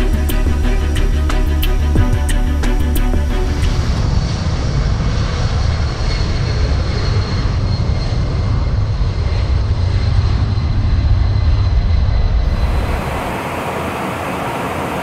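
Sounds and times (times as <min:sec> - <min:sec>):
jet engines rumbling with high whine: 0:00.0 - 0:15.0.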